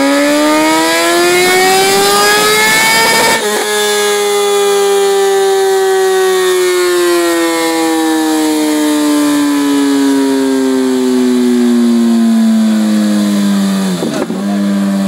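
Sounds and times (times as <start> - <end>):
motorcycle engine whine winding down: 0.0 - 15.0.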